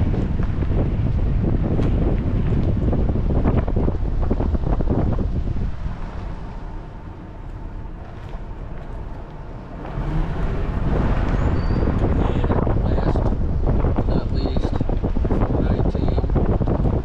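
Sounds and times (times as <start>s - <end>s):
vehicle rumble: 0.0s - 17.0s
wind buffeting microphone: 0.0s - 17.0s.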